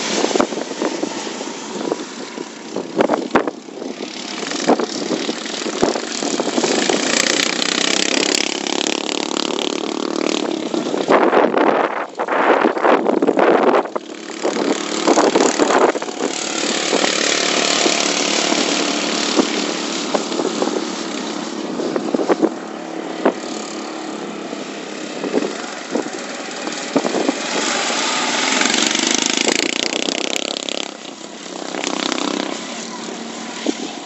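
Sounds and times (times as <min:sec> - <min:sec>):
racing lawn mower engines: 0:00.0 - 0:34.0.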